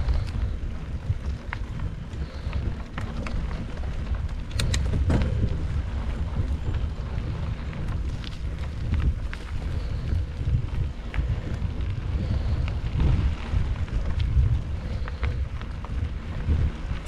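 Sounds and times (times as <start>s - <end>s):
bike clicks and rattles: 0.0s - 17.0s
low rumble: 0.0s - 17.0s
wind buffeting microphone: 0.0s - 17.0s.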